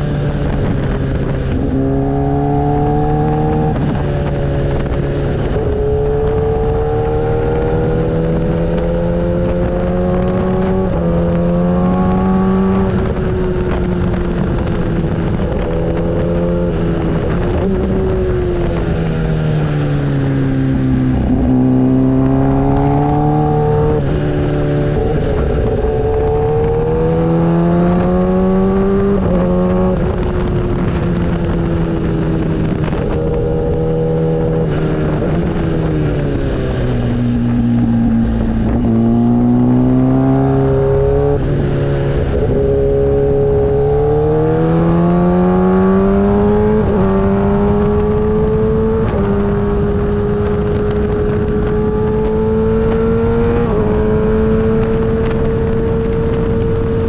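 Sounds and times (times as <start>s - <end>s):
motorcycle engine running: 0.0s - 57.0s
steady rushing noise: 0.0s - 57.0s.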